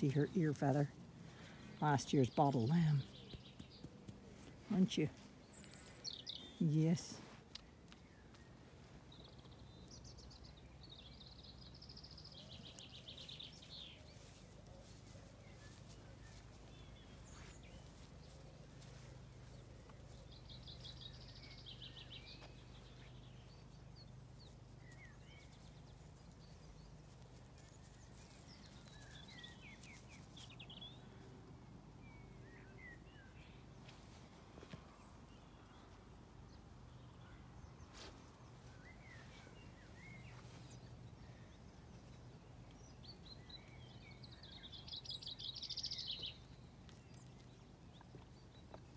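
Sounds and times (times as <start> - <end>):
songbird trilling song: 0.0 - 3.9, 4.6 - 31.3, 32.0 - 34.0, 34.6 - 48.9.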